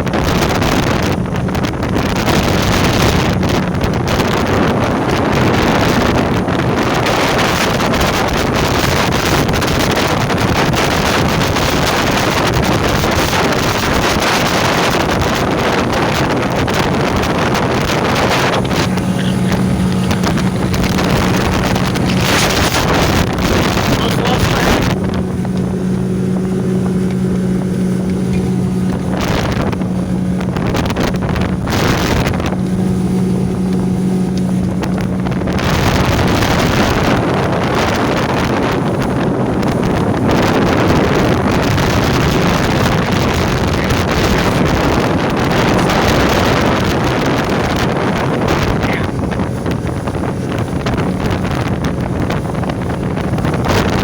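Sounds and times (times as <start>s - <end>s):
outboard motor droning: 0.0s - 54.0s
wind buffeting microphone: 0.0s - 54.0s.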